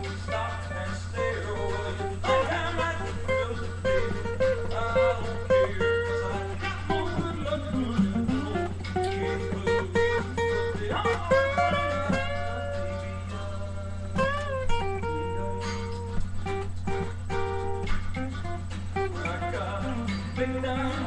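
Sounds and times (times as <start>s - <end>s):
acoustic guitar picking: 0.0s - 21.0s
steady low hum: 0.0s - 21.0s.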